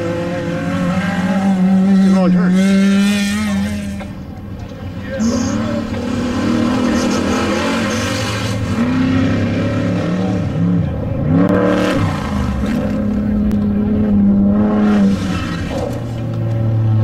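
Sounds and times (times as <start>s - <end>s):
race vehicle engines revving: 0.0s - 17.0s.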